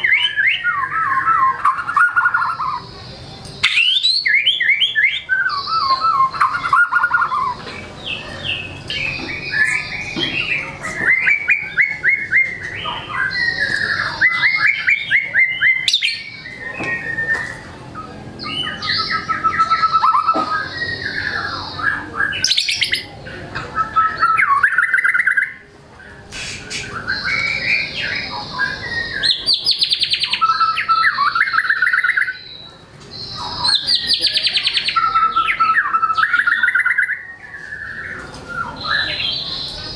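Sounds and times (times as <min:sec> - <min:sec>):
bird singing trills and whistles: 0:00.0 - 0:39.9.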